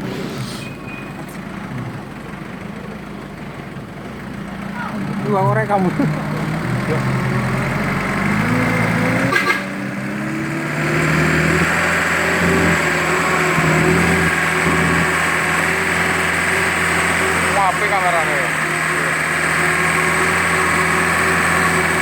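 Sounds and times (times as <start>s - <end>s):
motorbike engine revving: 4.1s - 22.0s.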